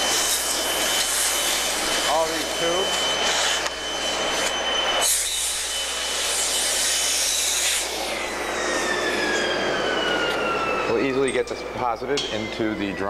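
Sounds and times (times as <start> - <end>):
vacuum blower whining: 0.0 - 13.0.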